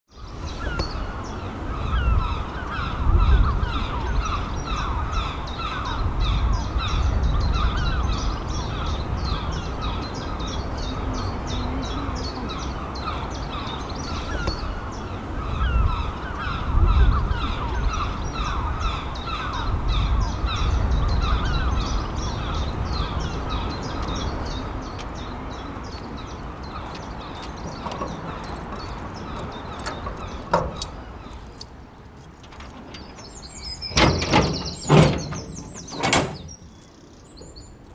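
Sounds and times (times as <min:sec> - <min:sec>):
flock of birds calling: 0:00.2 - 0:31.9.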